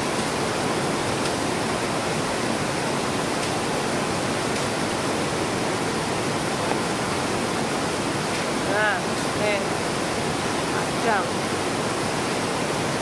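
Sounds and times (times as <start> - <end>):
heavy rain on plastic roof: 0.0 - 13.0.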